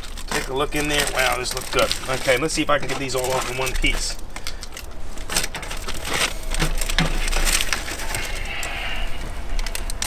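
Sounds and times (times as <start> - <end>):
aluminium foil crinkling: 0.0 - 10.0
metal tongs scraping grill grate: 0.0 - 10.0.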